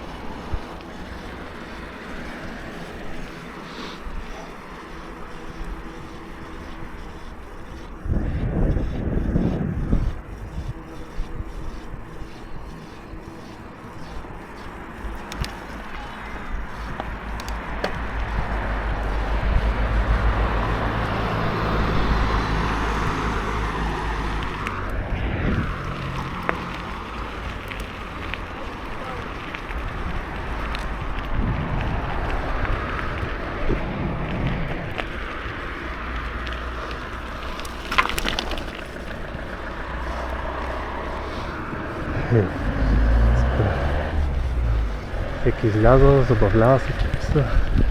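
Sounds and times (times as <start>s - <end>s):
bike clicking and rattling: 0.0s - 47.9s
tyres rolling over dirt: 0.0s - 47.9s
wind noise on microphone: 0.0s - 47.9s.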